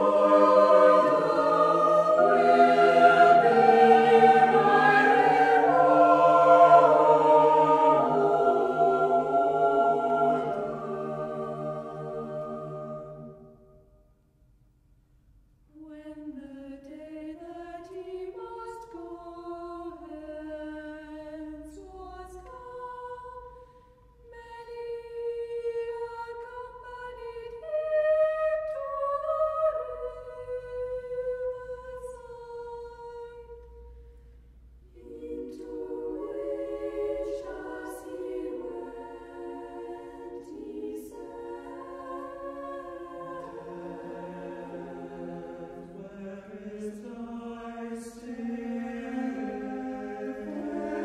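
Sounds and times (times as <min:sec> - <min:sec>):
choir singing: 0:00.0 - 0:13.8, 0:15.8 - 0:23.6, 0:24.3 - 0:33.8, 0:34.9 - 0:51.0.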